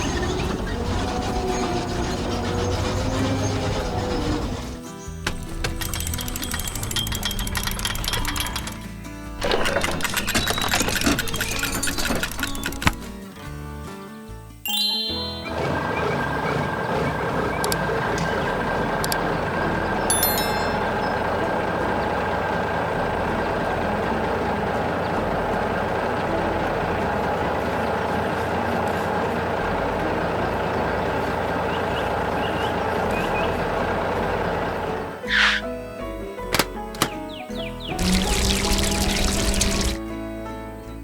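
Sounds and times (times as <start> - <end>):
heavy vehicle engine rumbling: 0.0 - 13.3, 15.2 - 40.8.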